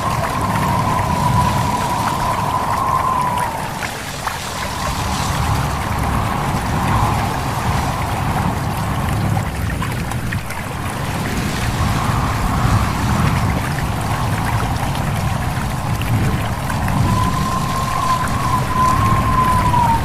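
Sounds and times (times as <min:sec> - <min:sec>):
thin whistling tone: 0:00.0 - 0:08.6, 0:11.6 - 0:20.0
low rumble of wind: 0:00.0 - 0:20.0
stream trickling: 0:00.0 - 0:20.0.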